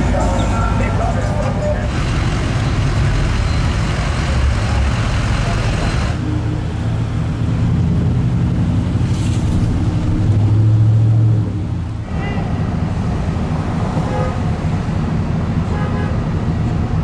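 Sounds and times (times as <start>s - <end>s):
engine and tyre hum inside cab: 0.0s - 17.0s.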